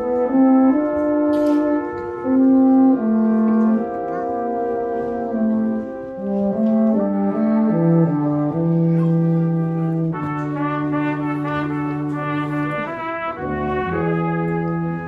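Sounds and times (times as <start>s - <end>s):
brass quartet playing: 0.0s - 15.0s.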